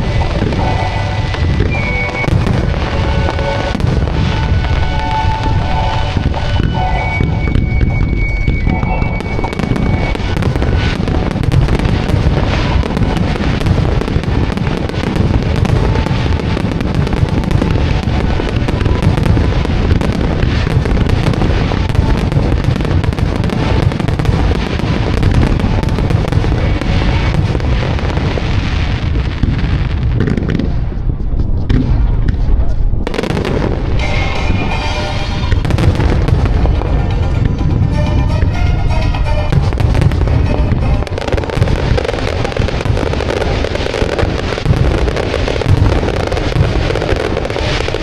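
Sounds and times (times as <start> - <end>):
fireworks booming: 0.0 - 48.0
fireworks crackling: 0.0 - 48.0
music from fireworks show: 0.0 - 48.0.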